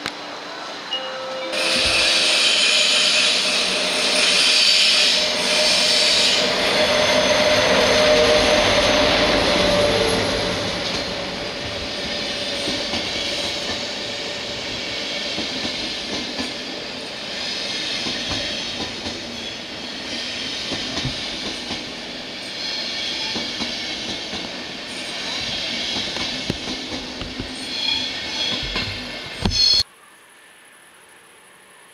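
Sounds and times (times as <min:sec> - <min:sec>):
train wheels rumbling on rail: 0:01.6 - 0:29.8.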